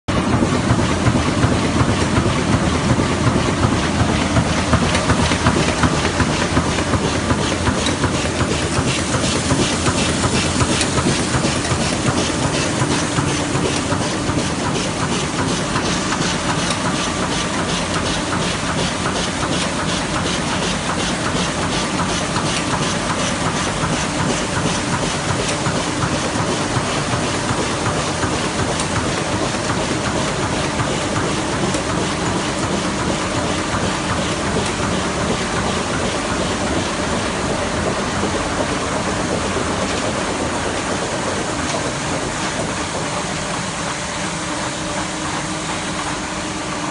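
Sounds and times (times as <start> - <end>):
printing press clattering: 0.1 - 46.9.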